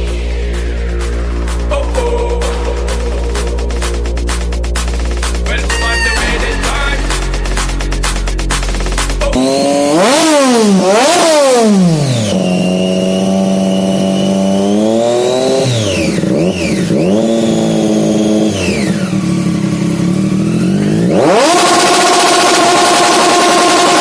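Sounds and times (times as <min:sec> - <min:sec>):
engine revving: 0:00.0 - 0:24.0.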